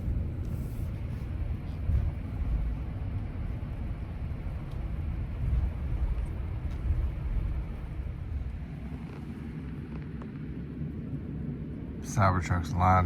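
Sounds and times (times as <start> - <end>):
pickup engine and road rumble: 0.0 - 13.0.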